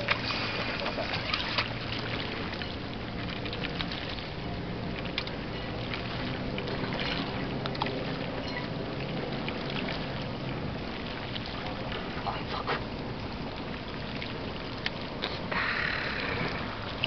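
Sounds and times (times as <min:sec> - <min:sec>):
low hum: 0:00.0 - 0:17.0
water at sea's edge: 0:00.0 - 0:17.0.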